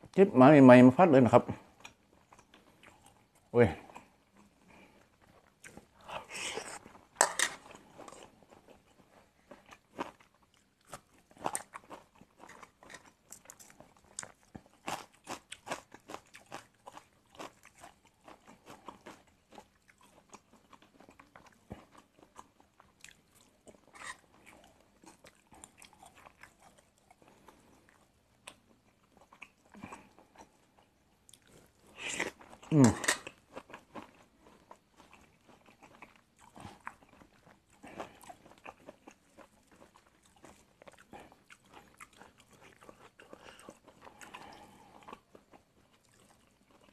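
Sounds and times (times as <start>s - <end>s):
person chewing crunchy food: 1.7s - 46.9s.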